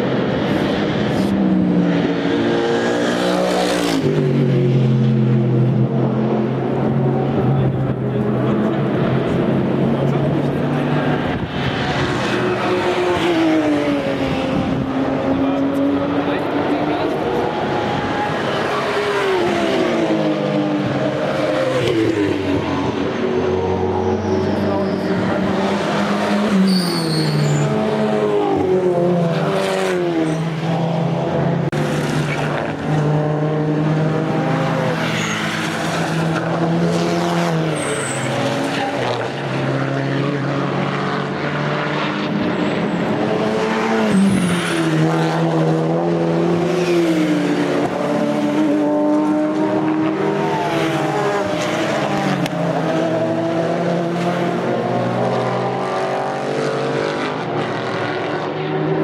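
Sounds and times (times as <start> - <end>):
race cars passing: 0.0 - 59.0.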